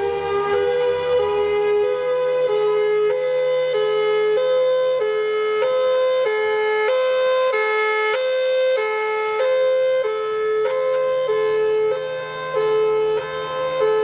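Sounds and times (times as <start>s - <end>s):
warning siren hi-lo signal: 0.0s - 14.0s.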